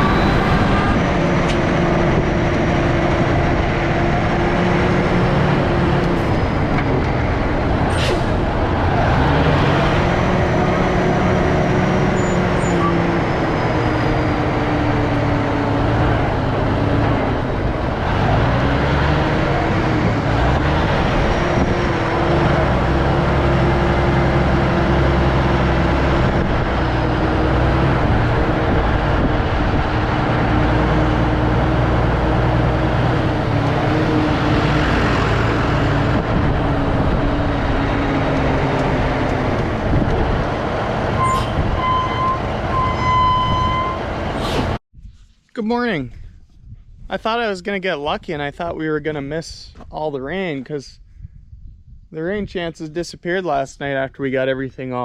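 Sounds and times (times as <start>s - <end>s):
heavy engine running under load: 0.0s - 44.8s.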